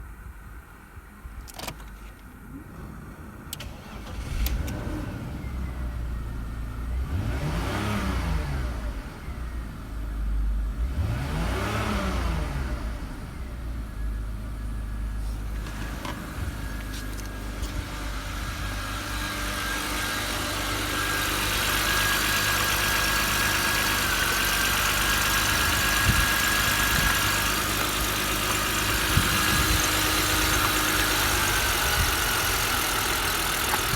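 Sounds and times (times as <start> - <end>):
car engine starting and idling: 0.6 - 33.9.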